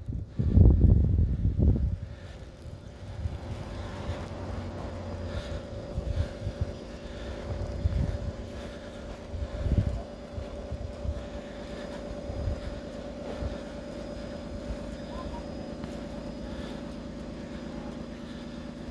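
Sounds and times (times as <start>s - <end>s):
engine drone: 0.0s - 18.9s
low rumbles: 0.0s - 18.9s.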